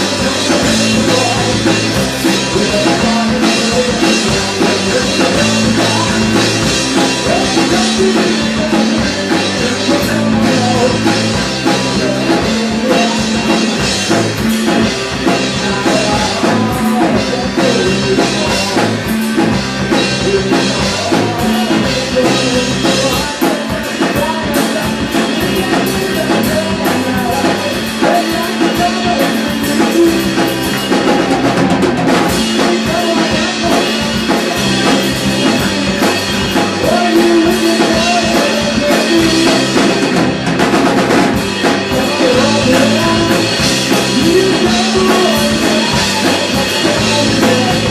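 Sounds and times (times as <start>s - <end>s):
bass guitar: 0.0s - 47.9s
drum kit with cymbal strikes: 0.0s - 47.9s
electric guitar: 0.0s - 47.9s.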